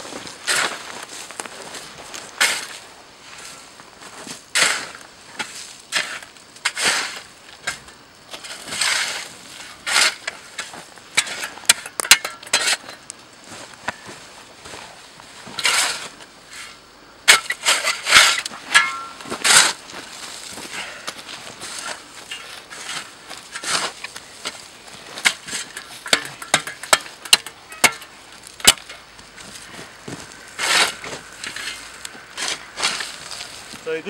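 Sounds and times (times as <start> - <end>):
shovel scraping dry soil: 0.1 - 34.0.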